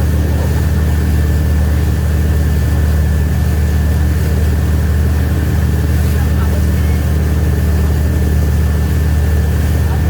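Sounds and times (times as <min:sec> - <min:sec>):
boat engine low drone: 0:00.0 - 0:10.0.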